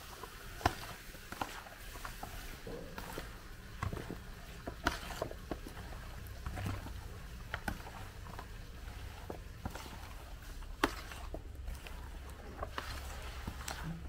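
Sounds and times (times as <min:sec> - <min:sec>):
wooden spoon stirring vegetables: 0:00.0 - 0:14.0
low steady hum: 0:02.6 - 0:14.0.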